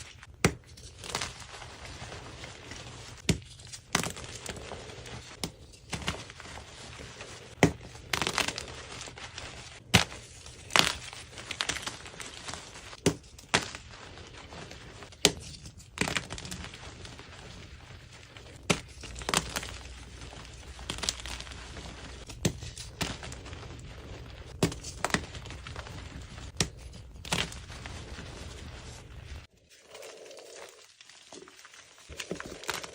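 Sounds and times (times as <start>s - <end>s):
chalk crumbling crunch: 0.0s - 32.9s.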